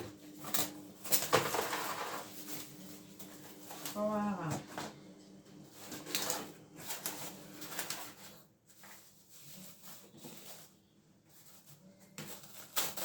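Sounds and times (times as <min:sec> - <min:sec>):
paper rustling and crinkling: 0:00.3 - 0:04.1, 0:05.7 - 0:13.0.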